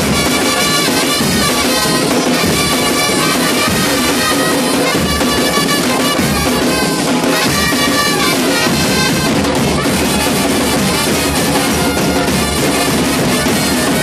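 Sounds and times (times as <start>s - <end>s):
drums and bass drum beat: 0.0s - 14.0s
wind instruments holding notes: 0.0s - 14.0s.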